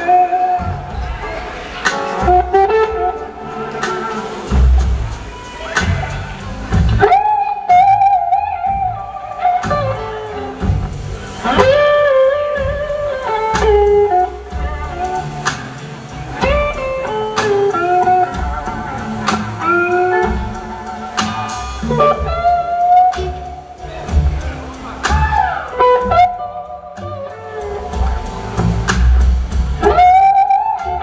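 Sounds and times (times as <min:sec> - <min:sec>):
bass: 0:00.0 - 0:31.0
drums: 0:00.0 - 0:31.0
electric guitar lead bending notes: 0:00.0 - 0:31.0.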